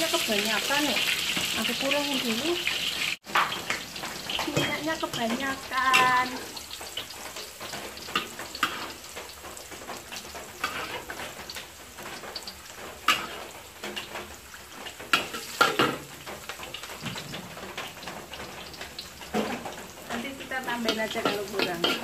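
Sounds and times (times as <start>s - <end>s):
ginger sizzling in hot oil: 0.0s - 22.0s
metal spatula scraping wok: 0.0s - 22.0s.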